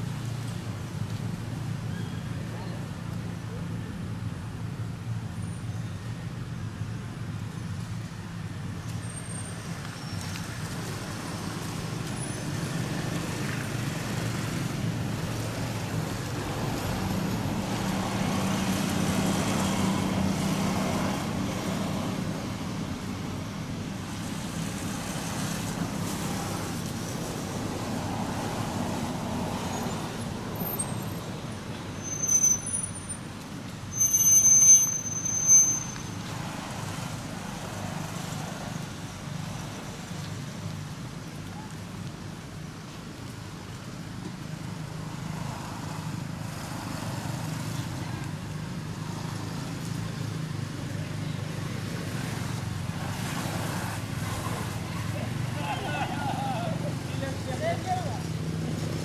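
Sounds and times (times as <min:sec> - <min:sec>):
road traffic engines rumbling: 0:00.0 - 0:59.0.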